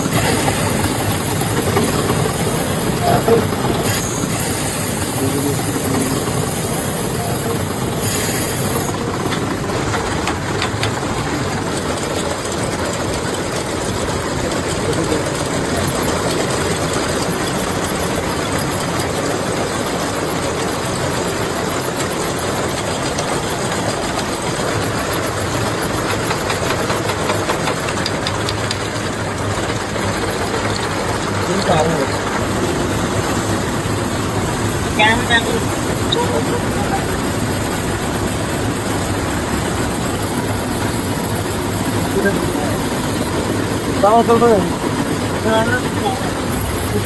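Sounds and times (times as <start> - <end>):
factory machinery running: 0.0 - 47.0.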